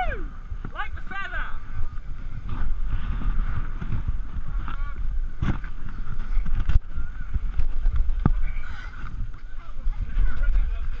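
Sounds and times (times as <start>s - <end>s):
low rumble of movement: 0.0s - 11.0s.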